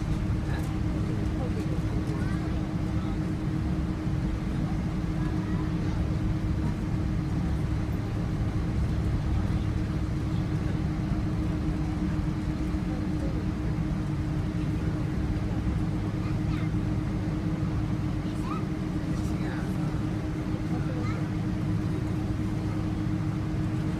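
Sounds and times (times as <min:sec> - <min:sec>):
aircraft cabin rumble: 0:00.0 - 0:23.9.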